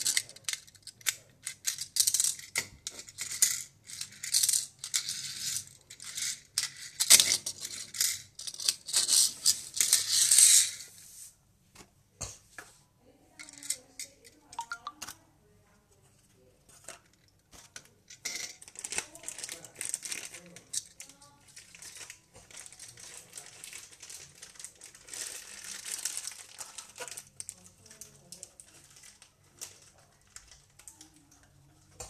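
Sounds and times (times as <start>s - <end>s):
toy cars rattling and clicking: 0.0s - 10.9s, 13.4s - 14.4s, 16.8s - 31.7s.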